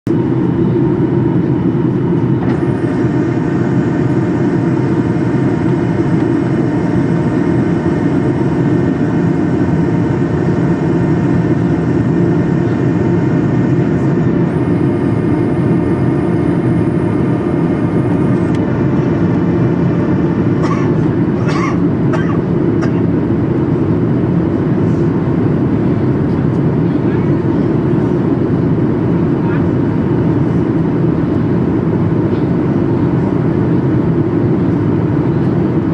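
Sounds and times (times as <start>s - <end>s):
airplane cabin engine rush: 0.1s - 35.9s
steady hums and whines: 0.1s - 35.9s.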